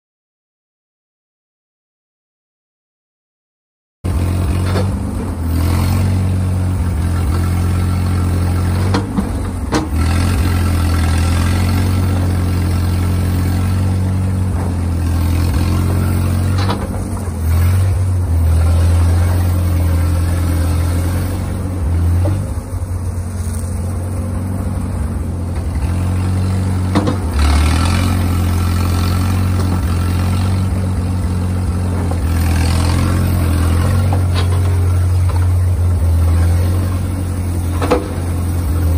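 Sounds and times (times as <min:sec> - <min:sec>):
excavator engine running: 0:04.0 - 0:38.9.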